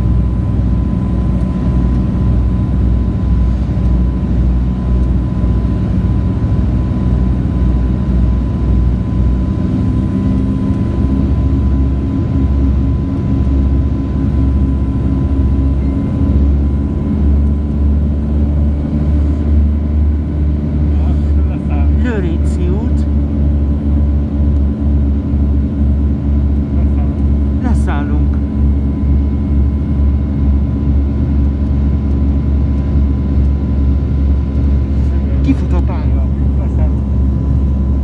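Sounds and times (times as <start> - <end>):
propeller plane engines in cabin: 0.0 - 38.0.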